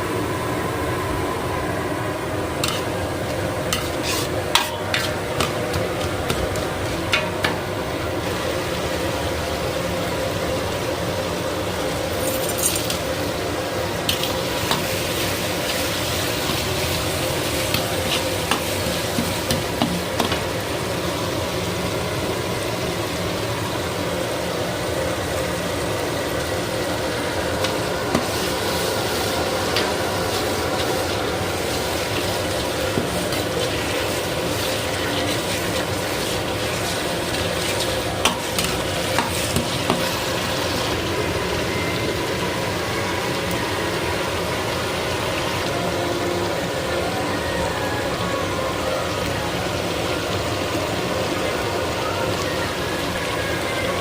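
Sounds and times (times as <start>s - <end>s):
curry sizzling in a pan: 2.4s - 47.6s.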